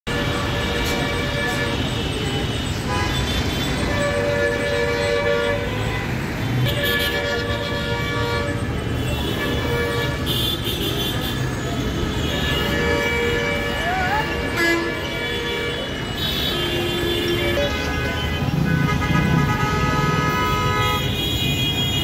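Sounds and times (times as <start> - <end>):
low rumble of traffic: 0.1 - 22.0
vehicle horns honking: 0.1 - 22.0.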